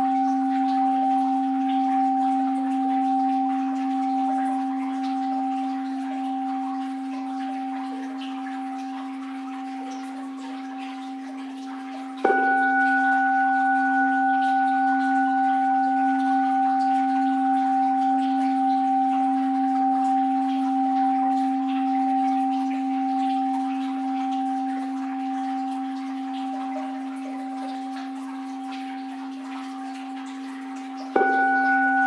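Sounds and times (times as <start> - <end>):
bowl bell ringing: 0.0 - 32.0
flowing water: 0.0 - 32.0.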